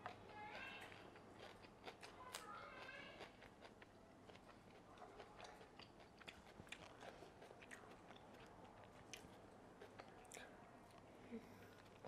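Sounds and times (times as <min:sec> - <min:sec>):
chewing fried food: 0:00.0 - 0:12.0.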